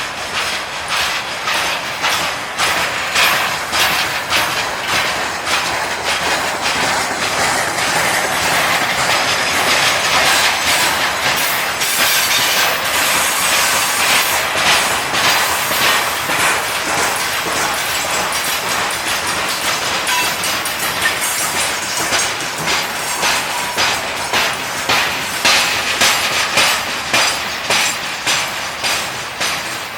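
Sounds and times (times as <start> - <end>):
train wheels clattering over rail joints: 0.0 - 29.9.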